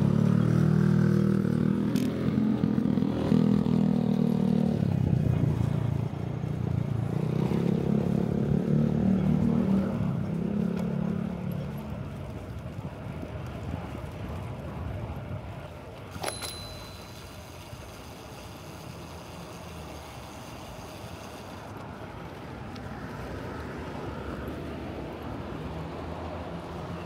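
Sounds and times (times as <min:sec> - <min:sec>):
road and traffic noise: 0:00.0 - 0:27.0.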